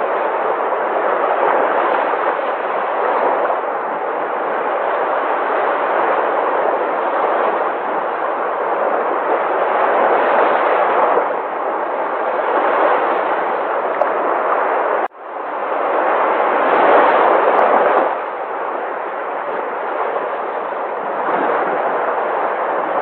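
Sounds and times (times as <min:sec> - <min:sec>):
sea waves breaking: 0:00.0 - 0:23.0.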